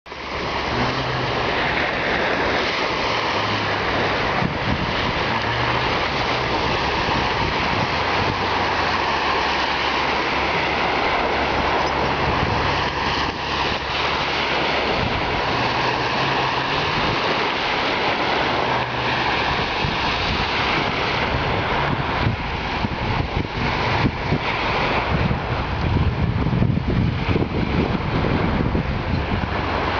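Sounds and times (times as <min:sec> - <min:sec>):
floodwater rushing: 0:00.1 - 0:29.9
wind buffeting microphone: 0:00.1 - 0:29.9.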